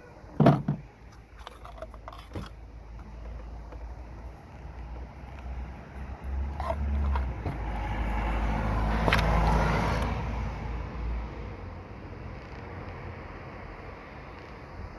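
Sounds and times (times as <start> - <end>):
car engine humming: 0.0 - 14.9.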